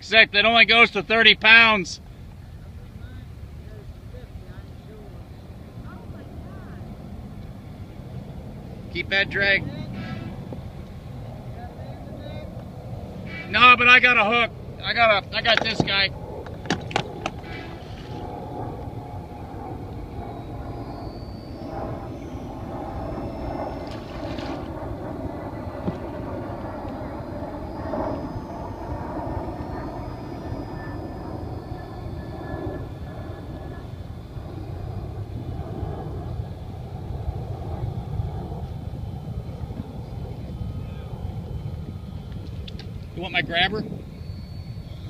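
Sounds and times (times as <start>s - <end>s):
distant engine rumble: 0.0s - 45.0s
faint high whine: 0.0s - 45.0s.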